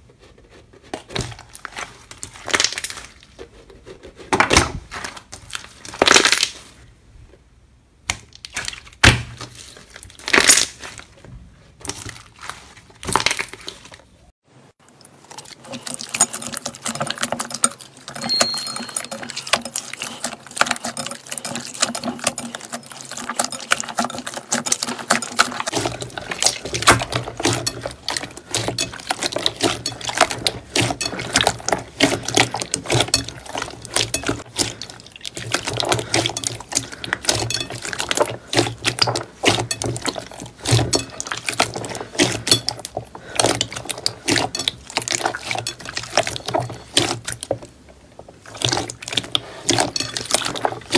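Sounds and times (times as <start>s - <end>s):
slime squelching and popping: 1.0s - 3.4s, 4.4s - 6.8s, 8.0s - 14.2s, 14.9s - 50.9s.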